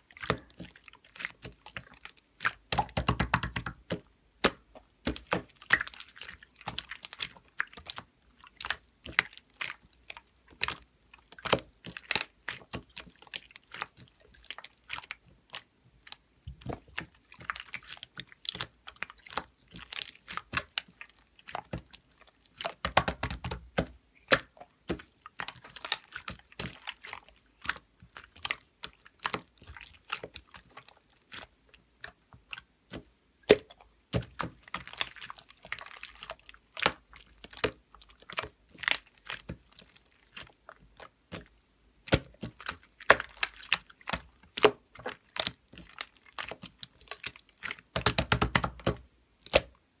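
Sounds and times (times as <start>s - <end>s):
slime squished by hand: 0.0s - 49.8s.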